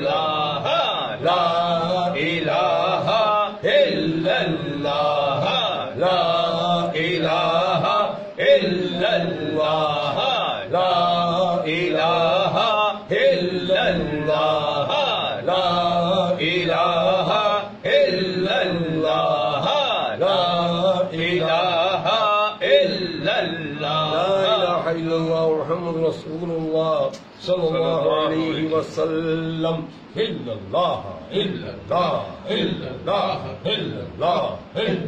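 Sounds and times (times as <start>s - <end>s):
men chanting: 0.0s - 35.0s.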